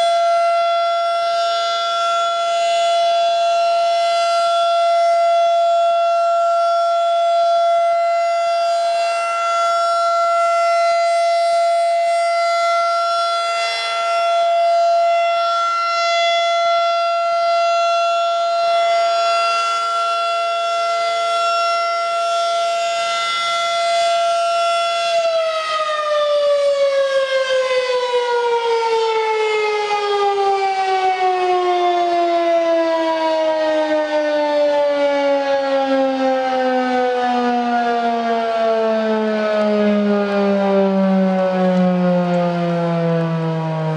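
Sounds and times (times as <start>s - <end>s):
tornado siren winding down: 0.0s - 43.9s.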